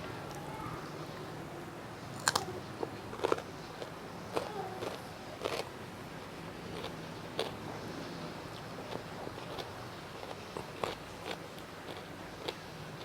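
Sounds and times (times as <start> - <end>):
crunchy food chewing: 2.1 - 13.0.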